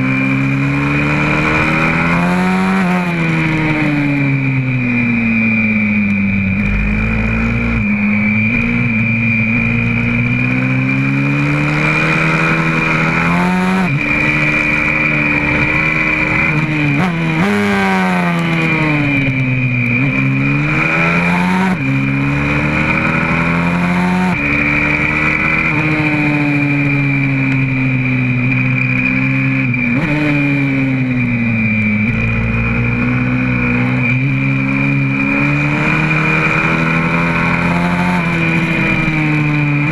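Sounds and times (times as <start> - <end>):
motorbike engine accelerating: 0.0 - 39.9.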